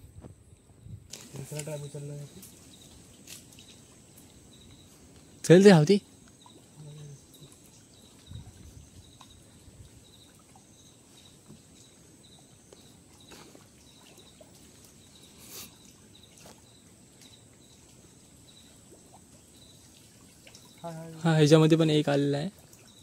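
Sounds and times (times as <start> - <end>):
faint chirping: 0.1 - 23.0
faint water splashes: 0.5 - 23.0.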